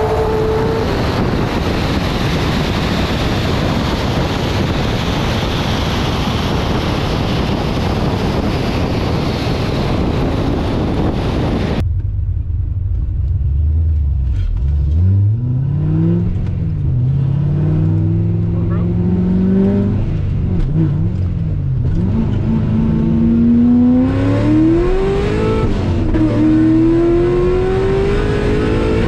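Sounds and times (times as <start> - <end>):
car engine accelerating: 0.0 - 29.0
car rushing along track: 0.0 - 29.0.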